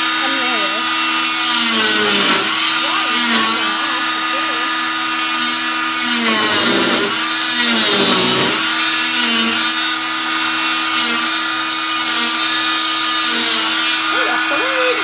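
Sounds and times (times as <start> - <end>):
cast saw high whine: 0.0 - 15.0.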